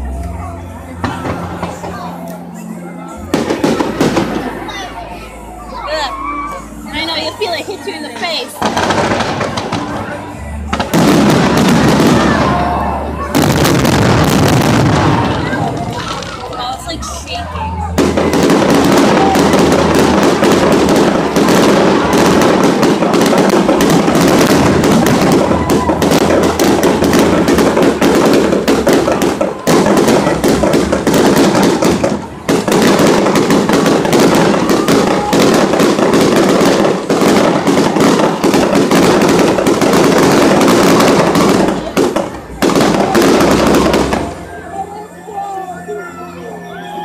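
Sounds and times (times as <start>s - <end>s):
fireworks bangs and crackles: 0.0s - 5.0s, 6.9s - 45.4s.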